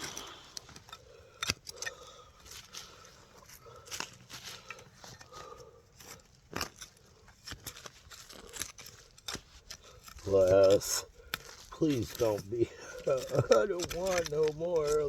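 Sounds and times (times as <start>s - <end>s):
digging tool scraping stony soil: 0.0s - 15.0s.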